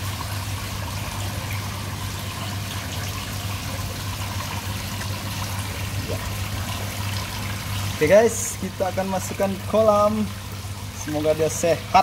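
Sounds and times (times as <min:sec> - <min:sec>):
low steady hum: 0:00.0 - 0:12.0
water trickling into pond: 0:00.0 - 0:12.0.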